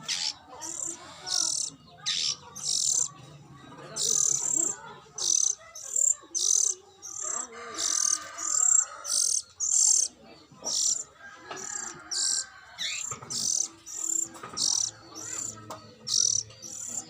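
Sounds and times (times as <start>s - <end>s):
shrill bird chirps: 0.0s - 3.3s, 3.9s - 17.0s
soft bird twittering: 0.0s - 17.0s.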